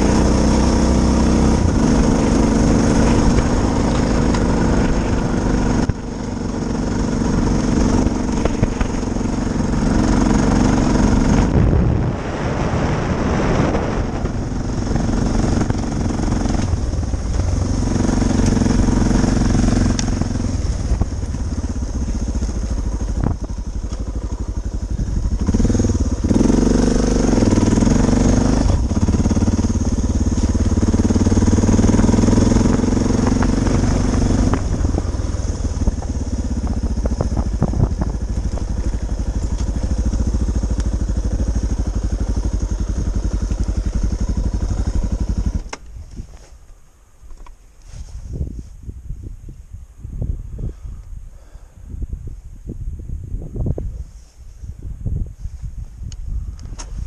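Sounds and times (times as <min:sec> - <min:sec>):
motorcycle engine running: 0:00.0 - 0:46.7, 0:52.2 - 0:57.0.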